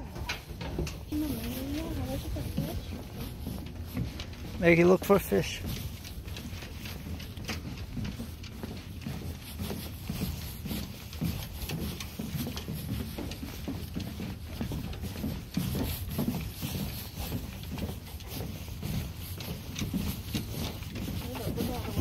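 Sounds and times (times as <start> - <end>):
footsteps on wooden boards: 0.0 - 22.0.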